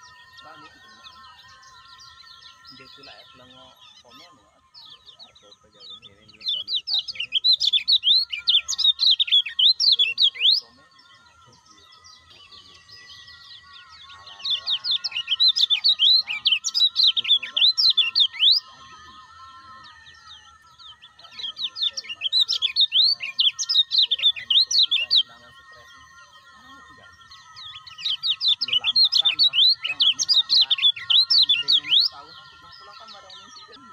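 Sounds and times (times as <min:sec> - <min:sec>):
bird chattering twitters: 0:00.0 - 0:19.4, 0:20.0 - 0:25.8, 0:26.5 - 0:33.9
faint steady whistling tones: 0:00.0 - 0:33.9.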